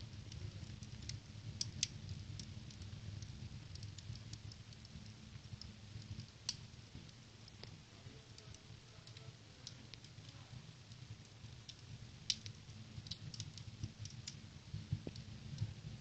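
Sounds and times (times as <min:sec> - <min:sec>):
low steady fire rumble: 0:00.0 - 0:16.0
wood fire crackling: 0:00.0 - 0:16.0.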